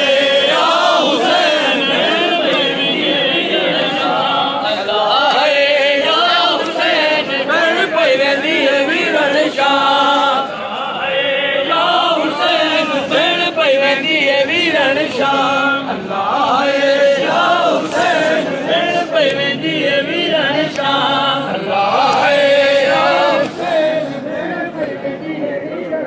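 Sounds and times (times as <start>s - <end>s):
men chanting a lament: 0.0s - 26.0s.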